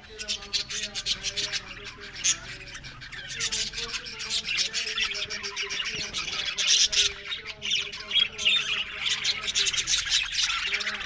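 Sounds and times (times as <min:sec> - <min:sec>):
budgerigars chattering and chirping: 0:00.0 - 0:11.0.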